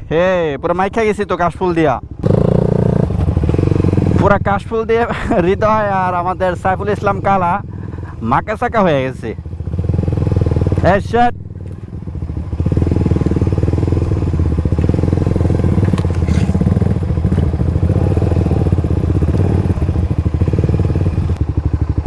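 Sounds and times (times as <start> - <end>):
motorcycle engine running: 2.0 - 22.0.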